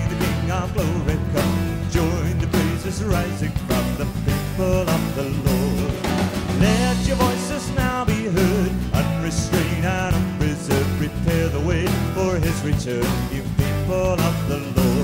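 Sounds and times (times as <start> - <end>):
worship song with full band: 0.0 - 15.0.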